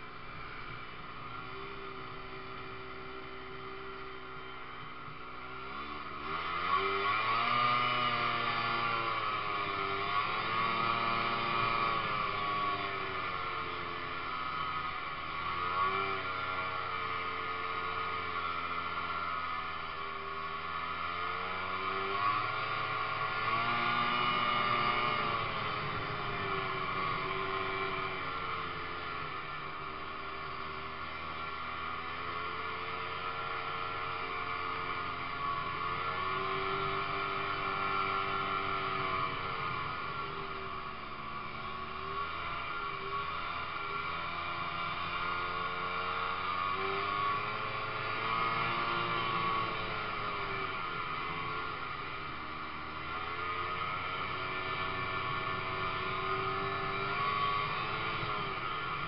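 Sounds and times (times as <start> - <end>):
snowmobile engine running: 5.7 - 59.0.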